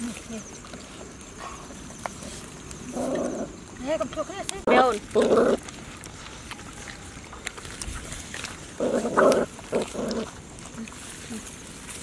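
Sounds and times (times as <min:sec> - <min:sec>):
puppies growling: 0:00.0 - 0:04.0, 0:04.6 - 0:10.8
puppies chewing: 0:00.0 - 0:12.0.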